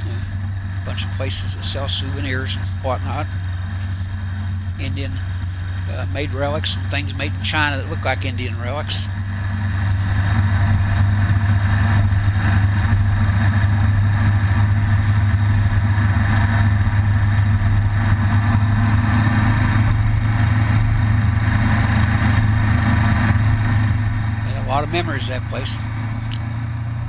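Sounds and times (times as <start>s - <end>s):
vehicle engine droning: 0.0s - 27.0s.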